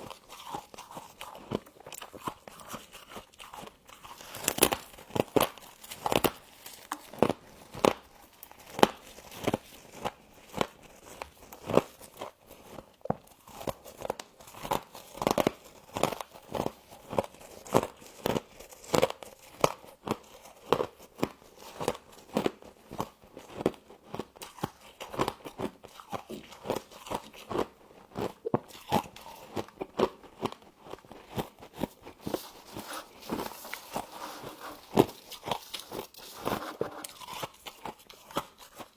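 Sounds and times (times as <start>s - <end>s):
crunching frost being chewed: 0.0s - 38.9s.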